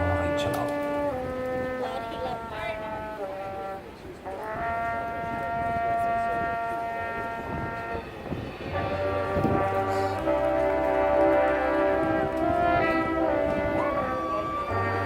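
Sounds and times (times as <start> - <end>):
marching band brass chord: 0.0 - 15.0.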